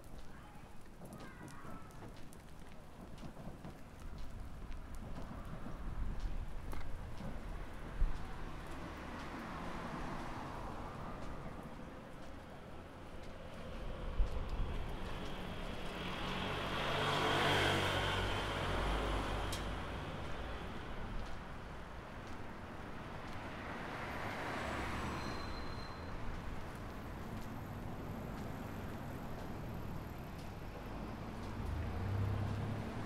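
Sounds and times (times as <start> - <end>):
vehicles passing: 0.3 - 33.0.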